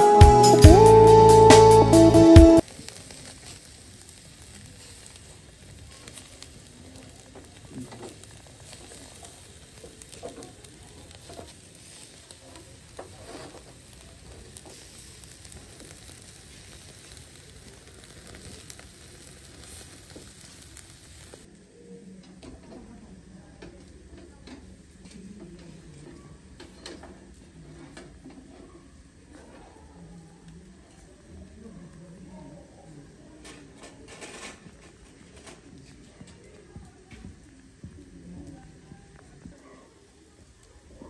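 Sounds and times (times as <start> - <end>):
burning coals crackling: 0.0 - 41.0
meat sizzling on a grill: 2.6 - 21.8, 22.4 - 41.0.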